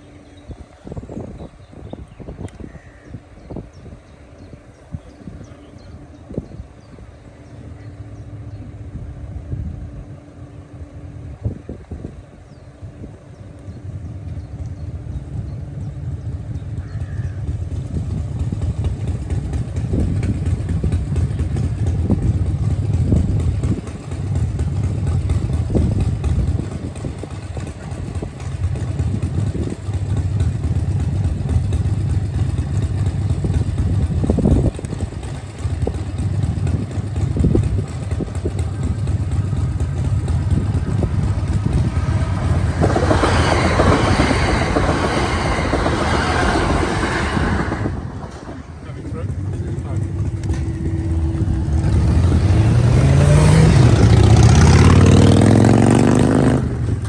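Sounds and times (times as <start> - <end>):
wind buffeting microphone: 0.2 - 57.0
electric train passing: 3.2 - 57.0.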